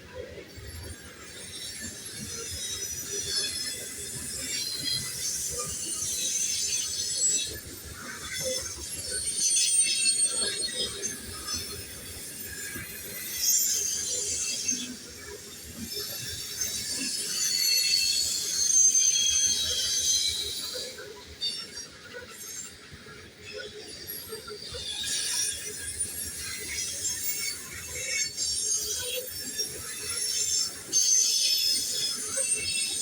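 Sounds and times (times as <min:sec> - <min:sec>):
train wheels squealing on rails: 0:00.0 - 0:33.0.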